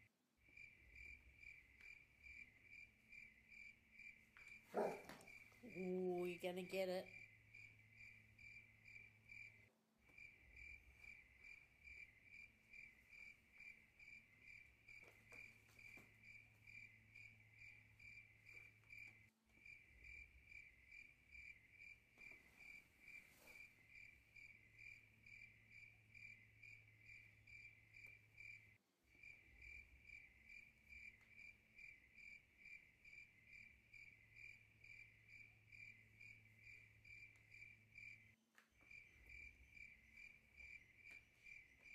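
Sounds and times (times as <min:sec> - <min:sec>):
cricket chirping: 0:00.0 - 0:41.9.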